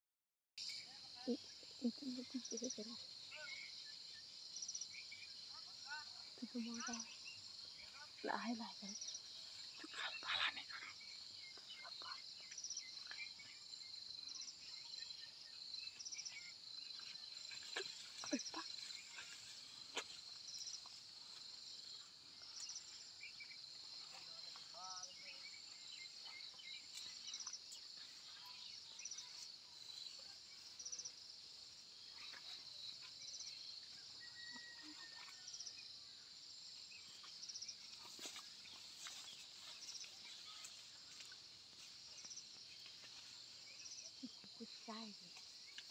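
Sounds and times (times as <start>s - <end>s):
high-pitched insect chorus: 0.6s - 45.9s.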